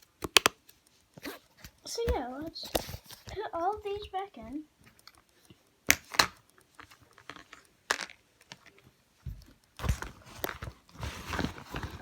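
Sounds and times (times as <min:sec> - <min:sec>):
fidget toys rustling and clacking: 0:00.0 - 0:12.0.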